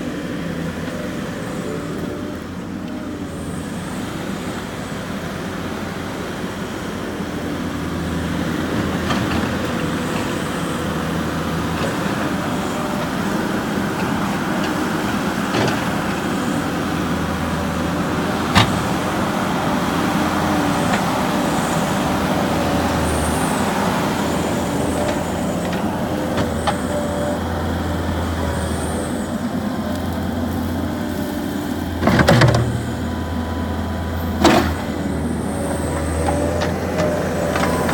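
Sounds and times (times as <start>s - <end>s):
skid steer engine running: 0.0s - 37.9s.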